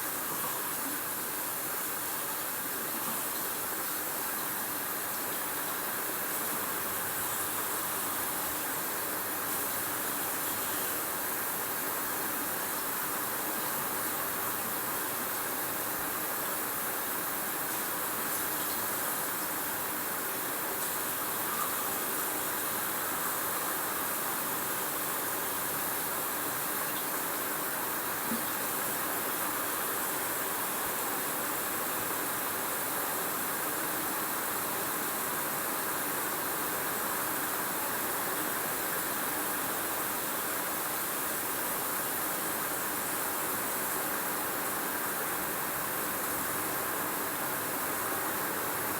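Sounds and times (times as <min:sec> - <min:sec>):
rain falling steadily: 0:00.0 - 0:48.9.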